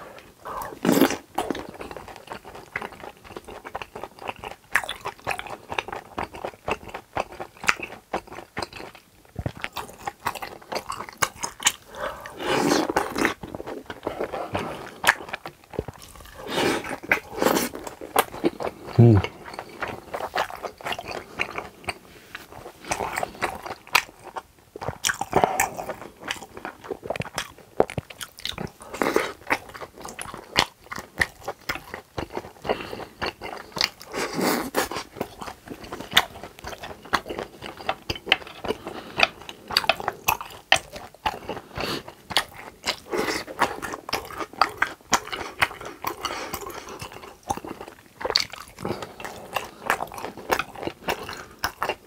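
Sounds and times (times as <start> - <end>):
biting and chewing food: 0.1 - 52.0.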